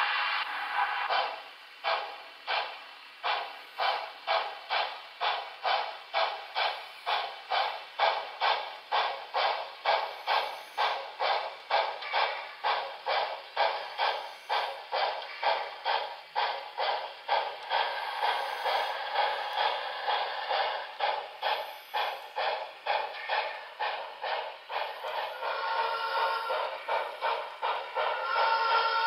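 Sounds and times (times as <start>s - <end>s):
model steam locomotive chuffing: 0.0s - 29.0s.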